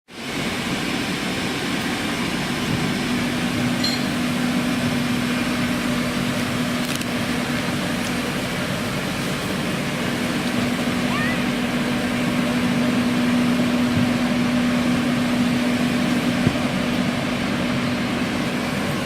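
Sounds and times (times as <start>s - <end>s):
washing machine whirring: 0.1s - 19.0s.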